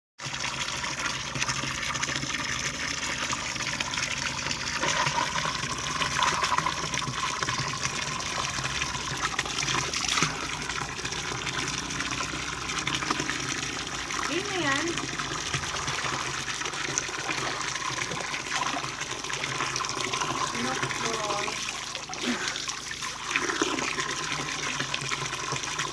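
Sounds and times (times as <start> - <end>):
running water rushing: 0.3 - 25.9.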